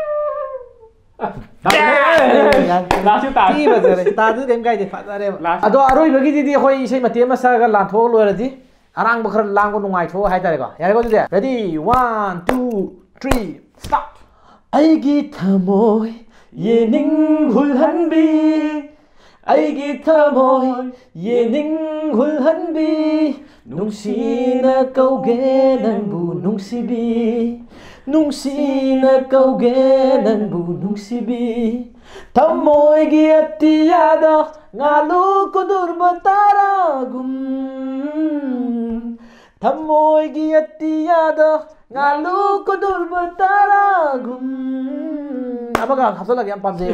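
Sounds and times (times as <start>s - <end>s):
man singing unaccompanied: 1.6s - 14.1s, 14.7s - 46.9s.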